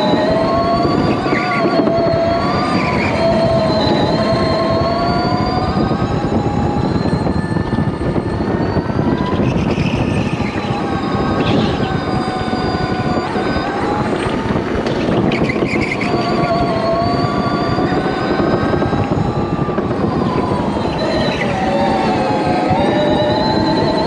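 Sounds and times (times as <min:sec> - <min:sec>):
electric motor whining: 0:00.0 - 0:24.0
tyre and wind noise: 0:00.0 - 0:24.0.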